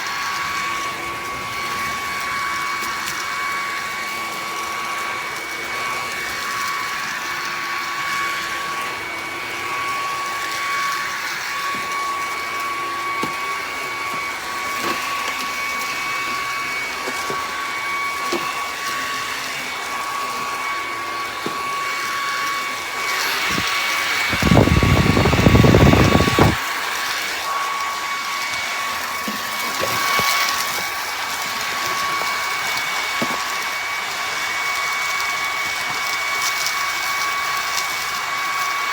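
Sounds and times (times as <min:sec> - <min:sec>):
stick vacuum running: 0:00.0 - 0:38.9.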